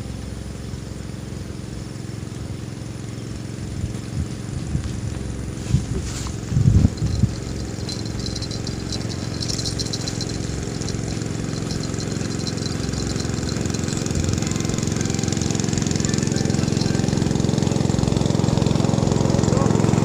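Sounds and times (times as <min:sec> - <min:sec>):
small engine rattling: 0:00.0 - 0:20.0.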